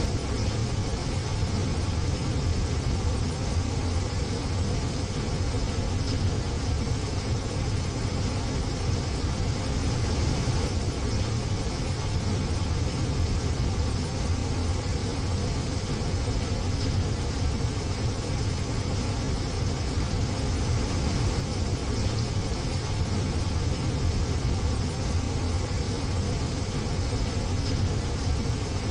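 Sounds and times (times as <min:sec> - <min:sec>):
heavy rain on a window: 0:00.0 - 0:28.9.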